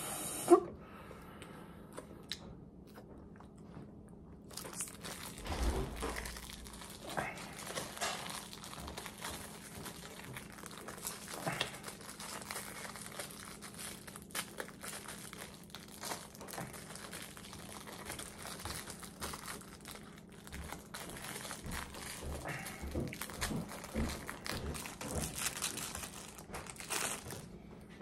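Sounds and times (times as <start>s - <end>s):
person chewing crispy food: 1.8s - 27.6s.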